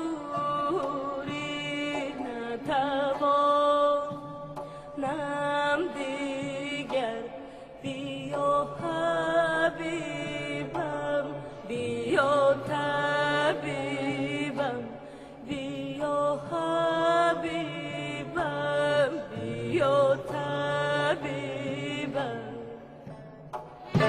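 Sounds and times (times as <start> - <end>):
woman singing: 0.0 - 24.0.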